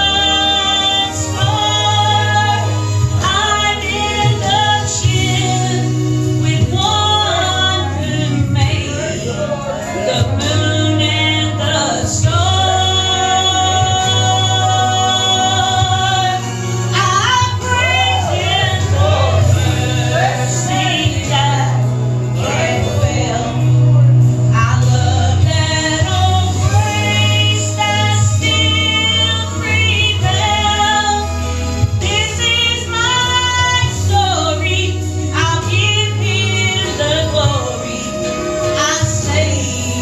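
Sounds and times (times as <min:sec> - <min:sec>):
instrumental accompaniment: 0:00.0 - 0:40.0
woman singing gospel: 0:00.0 - 0:40.0.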